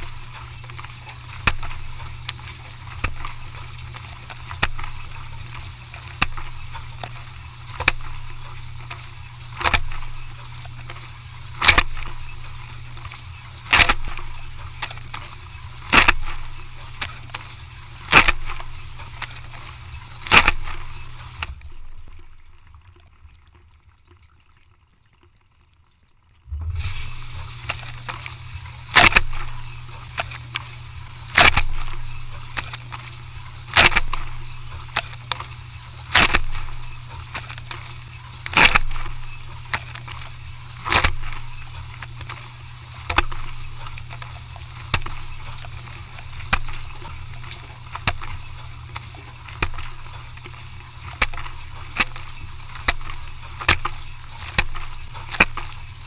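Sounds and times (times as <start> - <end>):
machine humming: 0.0 - 23.0, 26.5 - 56.0.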